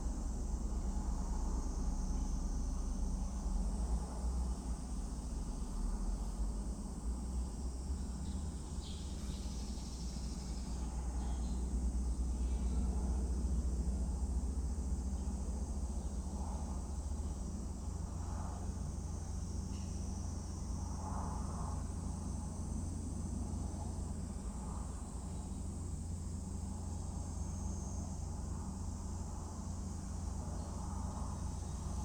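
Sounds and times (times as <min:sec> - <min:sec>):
crickets chirring: 0:00.0 - 0:32.0
low steady rumble: 0:00.0 - 0:32.0.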